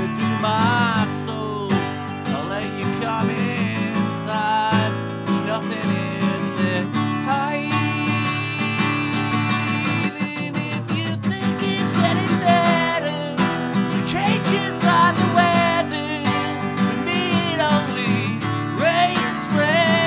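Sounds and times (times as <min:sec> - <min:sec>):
acoustic guitar strumming: 0:00.0 - 0:20.0
man singing: 0:00.0 - 0:20.0.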